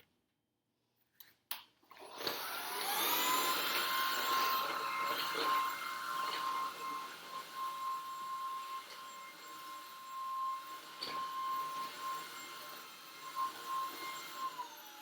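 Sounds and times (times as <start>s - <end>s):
vacuum motor whine: 1.9s - 15.0s.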